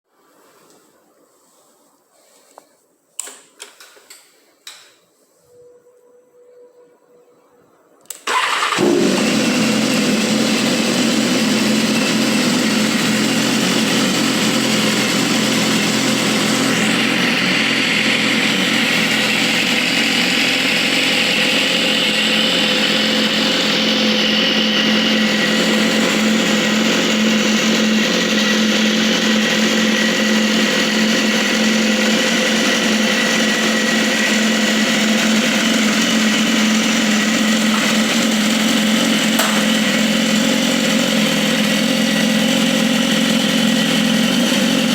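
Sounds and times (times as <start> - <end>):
motorcycle engine idling: 8.3 - 44.9.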